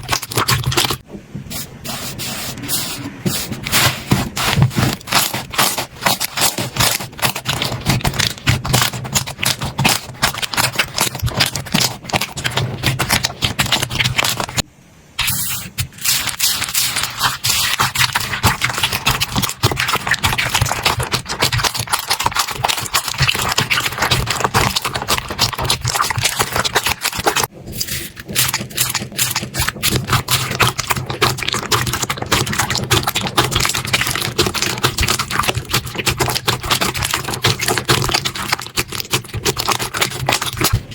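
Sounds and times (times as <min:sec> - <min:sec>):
slime crackling and popping: 0:03.7 - 0:40.9.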